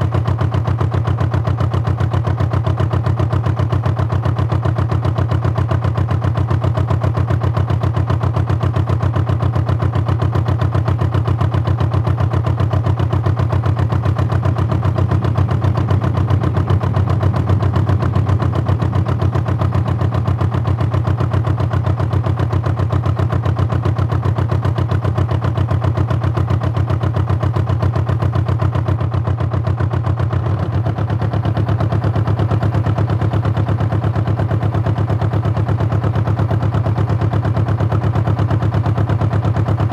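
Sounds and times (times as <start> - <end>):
diesel boat engine running: 0.0 - 39.9.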